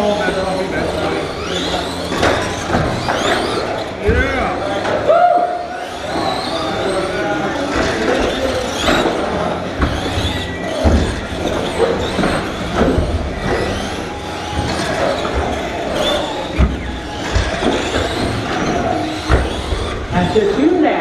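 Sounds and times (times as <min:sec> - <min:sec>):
rc truck motors whining: 0:00.0 - 0:21.0.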